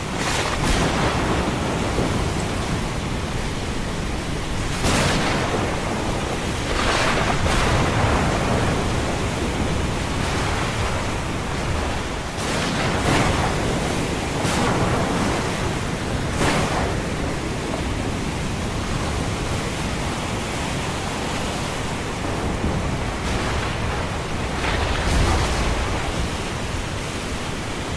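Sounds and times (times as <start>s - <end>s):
ocean surf roaring: 0.0s - 27.9s.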